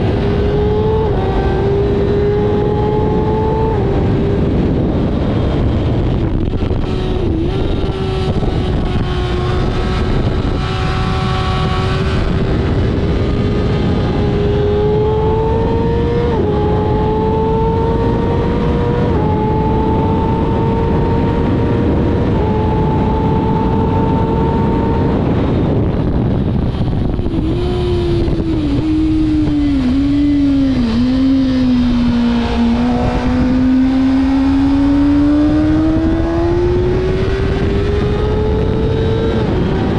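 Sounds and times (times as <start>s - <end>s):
motorcycle engine running hard: 0.0s - 39.9s
wind rush: 0.0s - 39.9s.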